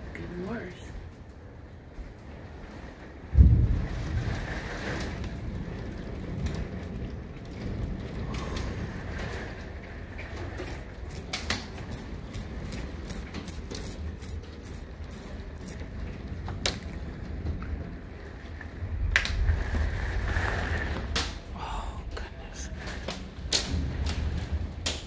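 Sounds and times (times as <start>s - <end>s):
low rumble of wind: 0.0s - 25.0s
rain ticking on window glass: 0.0s - 25.0s.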